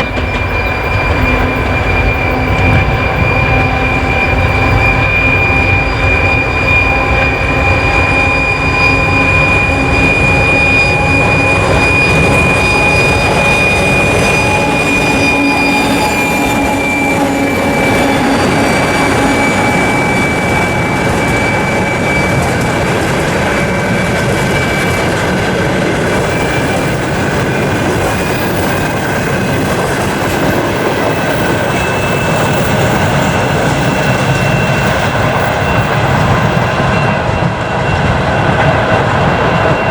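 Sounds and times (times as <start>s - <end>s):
turbocharger high whistle: 0.0s - 38.0s
locomotive engines rumbling: 0.0s - 39.9s
train rolling: 0.0s - 39.9s.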